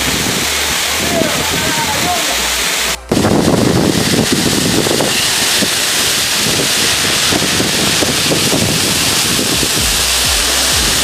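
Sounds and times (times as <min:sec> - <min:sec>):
wind rumble on microphone: 0:00.0 - 0:02.2, 0:03.0 - 0:11.0
waterfall rushing: 0:00.0 - 0:11.0.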